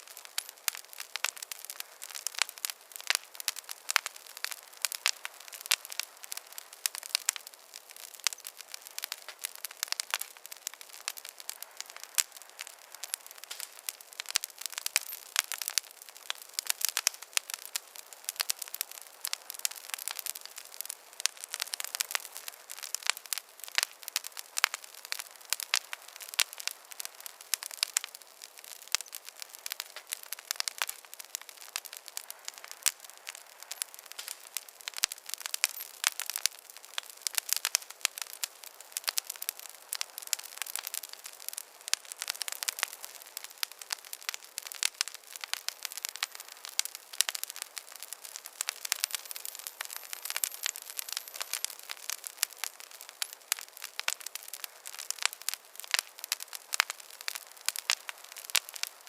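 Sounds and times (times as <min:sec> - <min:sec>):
steady hiss: 0:00.0 - 0:59.0
wood fire crackling: 0:00.0 - 0:59.0.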